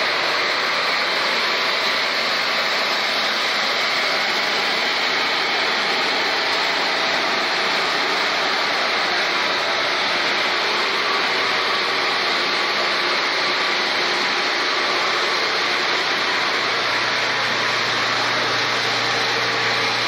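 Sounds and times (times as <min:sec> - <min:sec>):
hissing machinery noise: 0:00.0 - 0:20.0.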